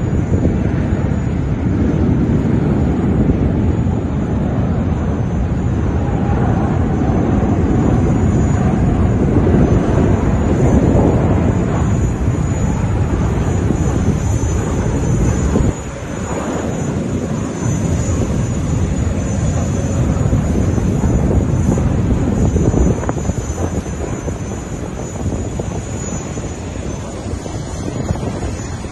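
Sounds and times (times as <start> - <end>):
jet airliner passing: 0.0 - 28.9.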